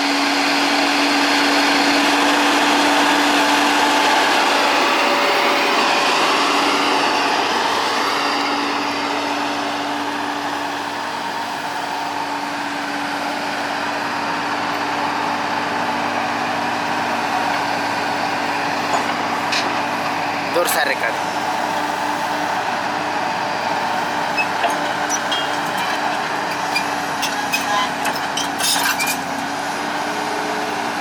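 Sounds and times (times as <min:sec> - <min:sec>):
excavator running: 0:00.0 - 0:31.0.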